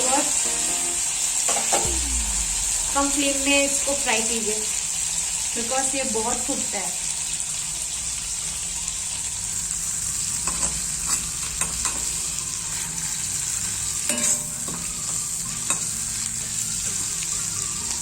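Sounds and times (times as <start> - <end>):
frying in hot oil sizzle: 0.0 - 18.0.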